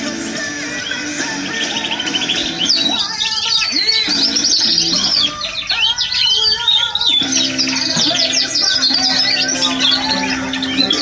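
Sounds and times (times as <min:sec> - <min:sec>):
background guitar music: 0:00.0 - 0:11.0
canary singing trills: 0:00.0 - 0:11.0.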